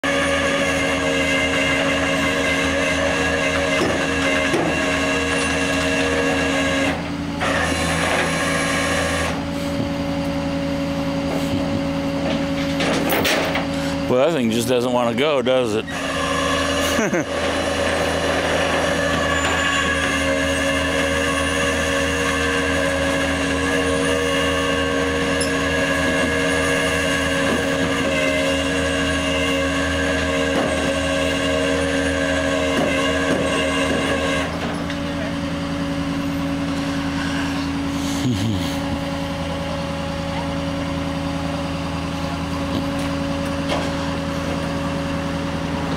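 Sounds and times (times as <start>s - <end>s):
hydraulic winch whine: 0.0s - 45.9s
truck engine hum: 0.0s - 45.9s.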